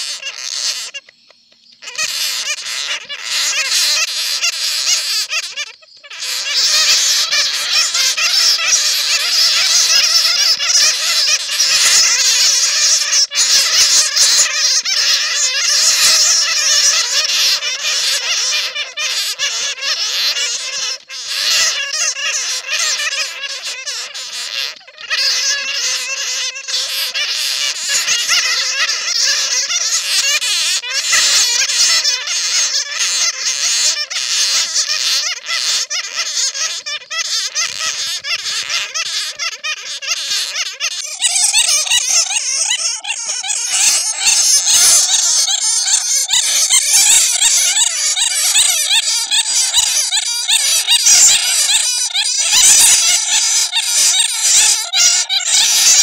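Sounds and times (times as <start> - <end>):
bats squeaking and chattering: 0.0 - 56.0.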